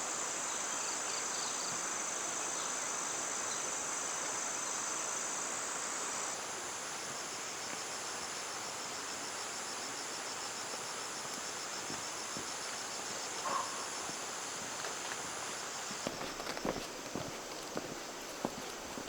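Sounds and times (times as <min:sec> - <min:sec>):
insects trilling: 0:00.3 - 0:19.0.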